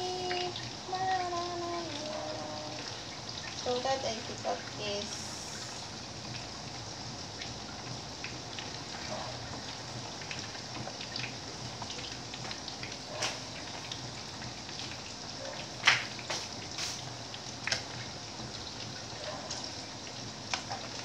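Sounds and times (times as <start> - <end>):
meat sizzling in oil: 0.0 - 21.0.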